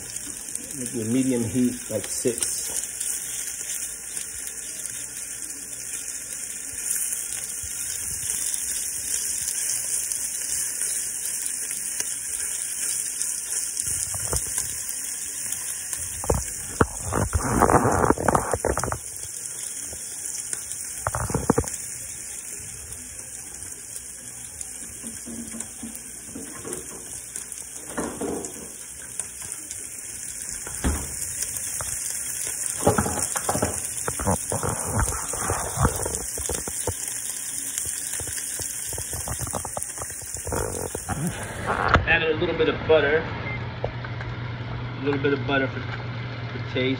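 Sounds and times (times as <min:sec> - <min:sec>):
fish sizzling in a pan: 0:00.0 - 0:41.9.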